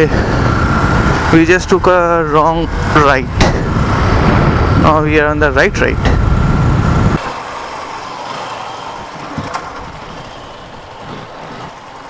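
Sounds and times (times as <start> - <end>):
motorcycle and road noise: 0.0 - 12.0
wind rushing over microphone: 0.0 - 12.0.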